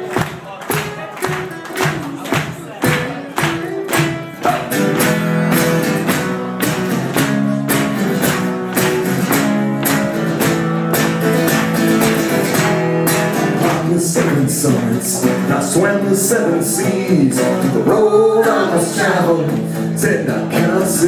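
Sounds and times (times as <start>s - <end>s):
acoustic guitars strumming chords: 0.0s - 21.0s.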